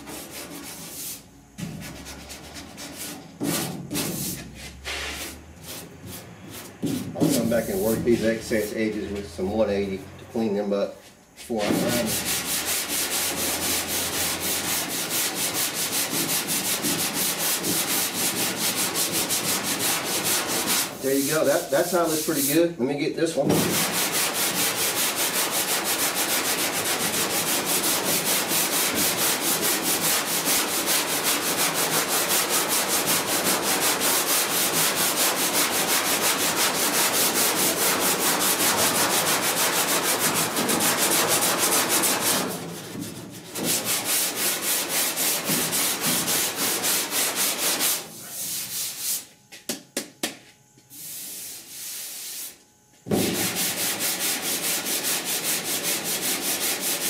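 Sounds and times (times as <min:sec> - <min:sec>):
sandpaper rubbing on filler: 0:00.0 - 0:49.4, 0:50.8 - 0:57.0.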